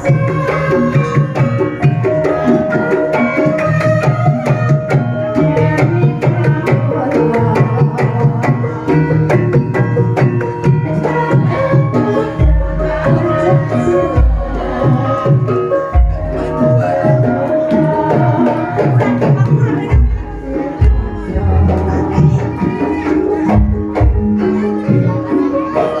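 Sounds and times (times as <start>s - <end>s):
hand drum beats: 0.0s - 26.0s.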